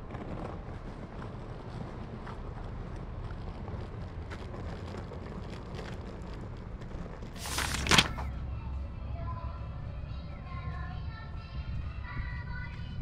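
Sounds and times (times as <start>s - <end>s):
wind on the microphone: 0.0s - 7.4s, 9.0s - 13.0s
city traffic rumble: 0.0s - 13.0s.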